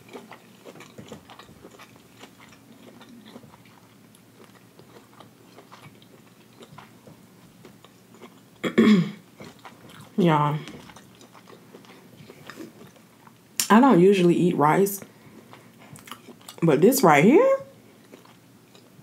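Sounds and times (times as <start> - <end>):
close chewing with mouth clicks: 0.0 - 13.7, 15.0 - 16.6, 17.9 - 19.0.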